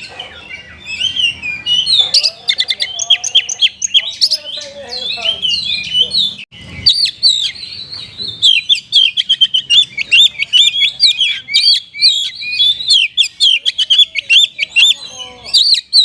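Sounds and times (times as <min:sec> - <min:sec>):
bird singing chirps and whistles: 0:00.0 - 0:16.0.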